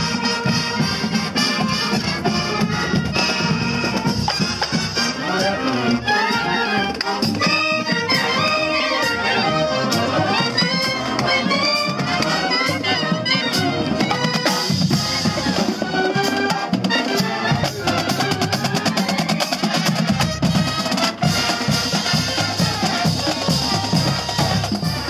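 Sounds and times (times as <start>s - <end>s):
snare and bass drums beating: 0.0s - 5.1s, 10.0s - 25.0s
brass instruments playing: 0.0s - 25.0s.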